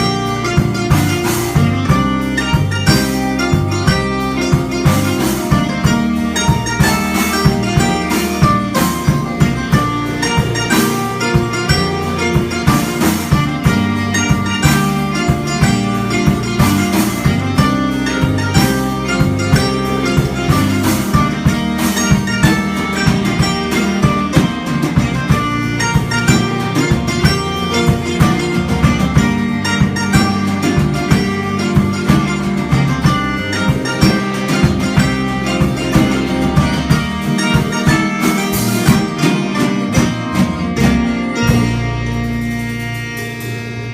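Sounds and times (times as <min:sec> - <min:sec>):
drums keeping a beat: 0:00.0 - 0:43.9
plucked guitar: 0:00.0 - 0:43.9.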